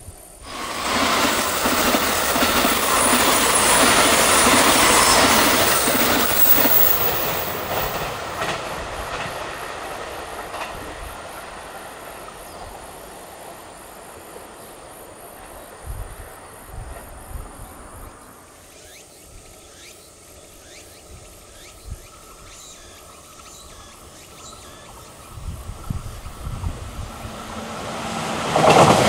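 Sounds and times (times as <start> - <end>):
train wheels rushing on rail: 0.4 - 18.6, 21.4 - 29.0.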